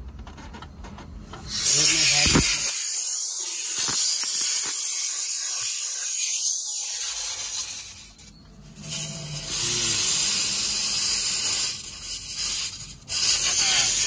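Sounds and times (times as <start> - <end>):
compressed air hissing from pipe: 1.5 - 14.0.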